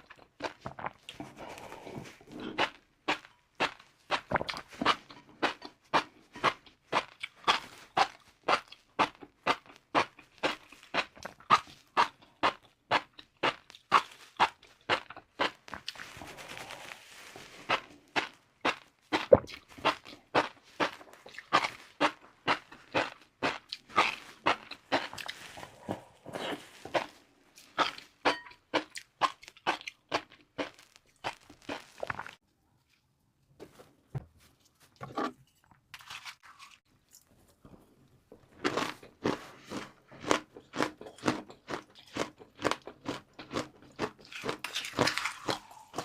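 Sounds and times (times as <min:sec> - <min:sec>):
chewing crunchy noodles: 0:00.0 - 0:32.4, 0:35.9 - 0:46.0.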